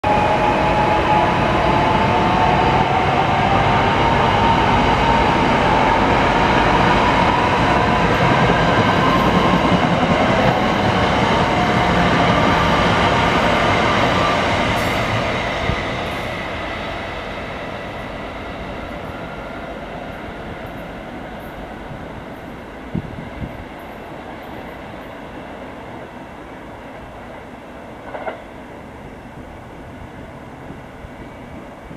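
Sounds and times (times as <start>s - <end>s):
train wheels rumbling on rail: 0.0s - 31.9s.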